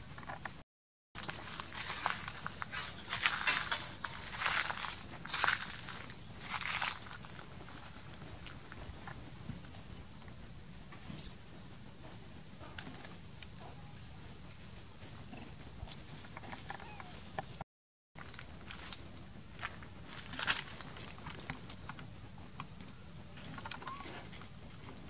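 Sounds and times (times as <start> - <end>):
insects trilling: 1.2 - 17.6, 18.2 - 25.0.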